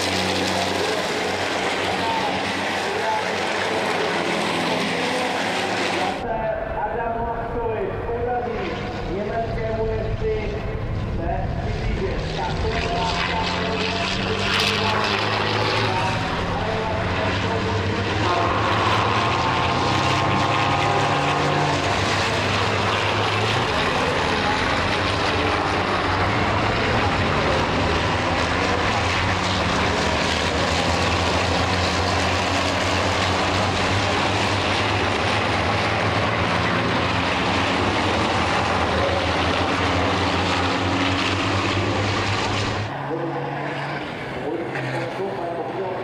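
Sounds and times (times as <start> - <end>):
truck engines droning at speed: 0.0 - 46.0.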